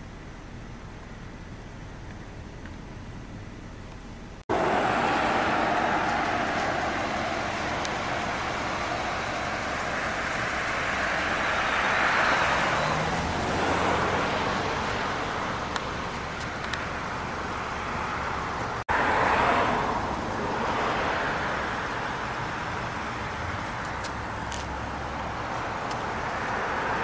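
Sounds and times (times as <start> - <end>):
cars passing: 4.4 - 27.0.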